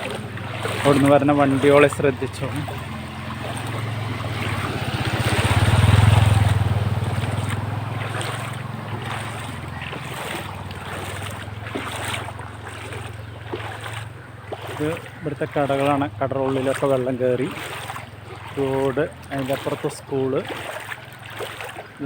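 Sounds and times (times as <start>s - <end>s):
vehicle engine hum: 0.0s - 22.0s
water swishing and splashing: 0.0s - 22.0s.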